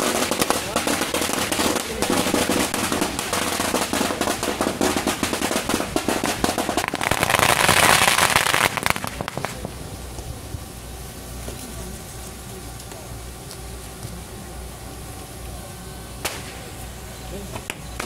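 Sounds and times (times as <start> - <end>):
firecrackers cracking: 0.0 - 18.0
low steady rumble: 0.0 - 18.0.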